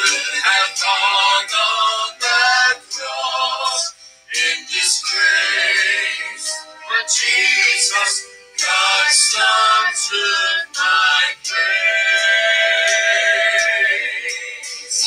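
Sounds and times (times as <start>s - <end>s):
man and woman singing gospel duet: 0.0s - 15.0s.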